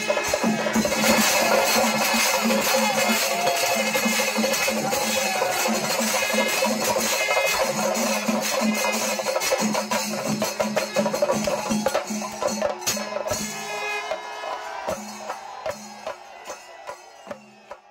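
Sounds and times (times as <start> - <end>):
hand cymbals: 0.0 - 17.8
drums beaten with sticks: 0.0 - 17.9.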